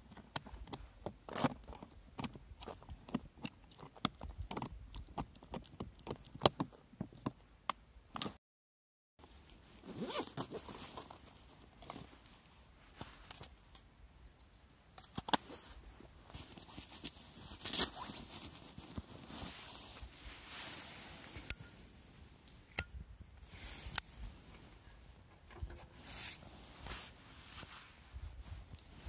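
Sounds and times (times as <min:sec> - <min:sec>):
handling rustling and rasping: 0:00.0 - 0:07.5, 0:09.2 - 0:13.9, 0:15.0 - 0:29.0.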